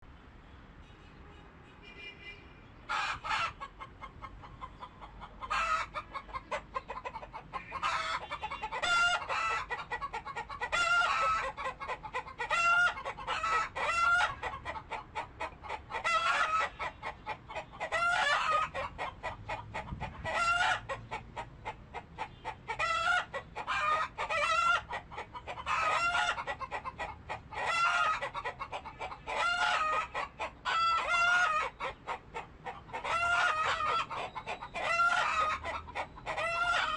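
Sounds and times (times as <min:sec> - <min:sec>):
chickens clucking: 0:02.8 - 0:36.9.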